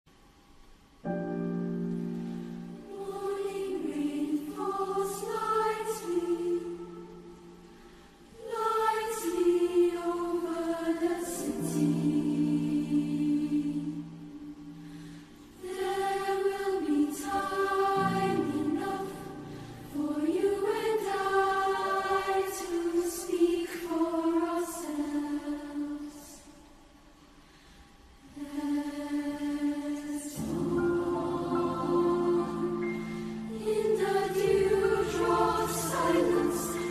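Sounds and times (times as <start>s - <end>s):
choir singing: 2.5s - 26.8s, 28.2s - 36.9s.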